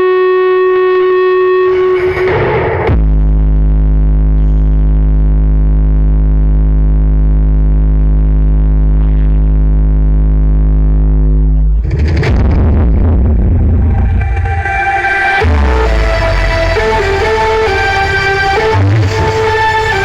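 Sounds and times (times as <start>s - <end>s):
low synthesizer bass drone: 0.0s - 20.0s.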